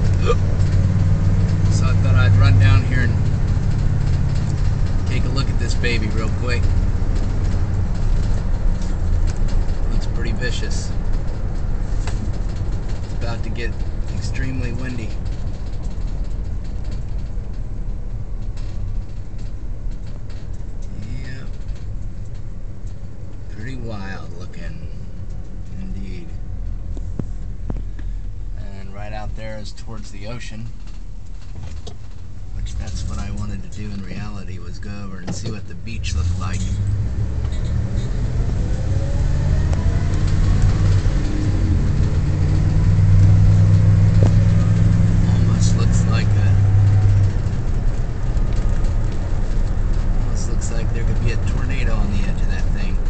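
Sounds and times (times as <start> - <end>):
car driving rumble: 0.0 - 53.0
road noise: 0.0 - 53.0.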